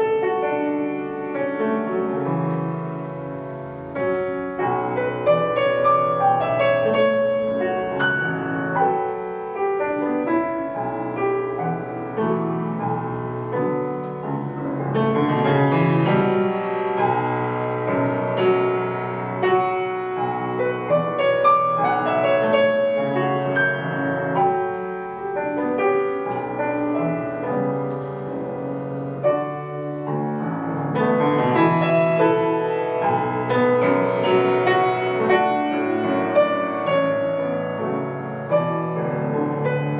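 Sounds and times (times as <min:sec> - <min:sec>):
piano playing classical music: 0:00.0 - 0:39.9.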